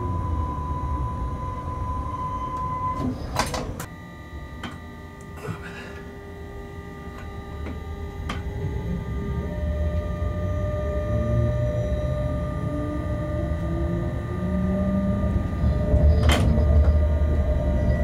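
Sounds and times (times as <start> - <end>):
locomotive whine: 0.0 - 18.0.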